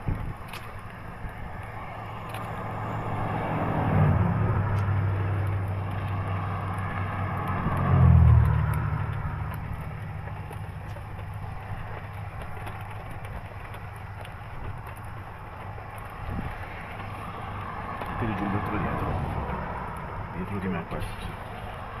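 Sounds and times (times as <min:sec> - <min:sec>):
steady rushing background: 0:00.0 - 0:22.0
vehicles passing by: 0:00.0 - 0:22.0.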